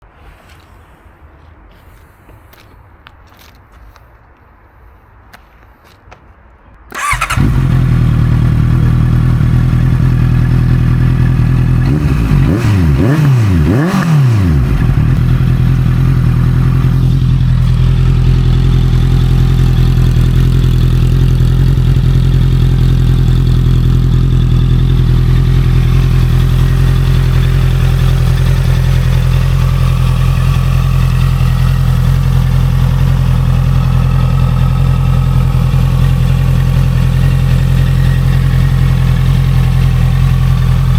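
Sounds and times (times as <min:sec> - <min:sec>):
motorcycle engine idling: 0:06.9 - 0:40.9
motorcycle engine revving: 0:06.9 - 0:40.9.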